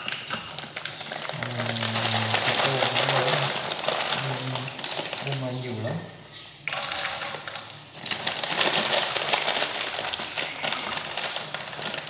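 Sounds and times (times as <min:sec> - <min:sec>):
plastic packet crinkling: 0:00.0 - 0:05.9, 0:06.7 - 0:12.0.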